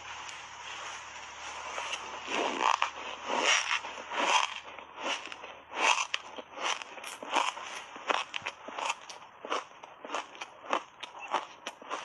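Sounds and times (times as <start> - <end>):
chewing crunchy shaved ice: 0.0 - 12.0.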